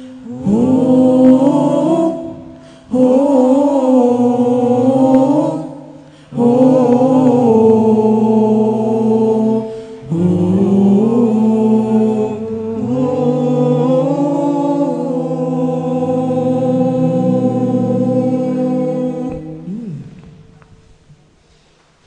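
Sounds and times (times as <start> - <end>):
male voices singing in harmony: 0.0 - 20.6.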